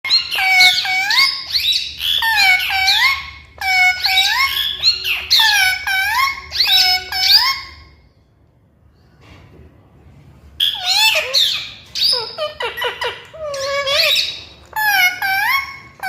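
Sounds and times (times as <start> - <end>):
parrot shrill rapid calls: 0.1 - 7.9, 10.6 - 16.0.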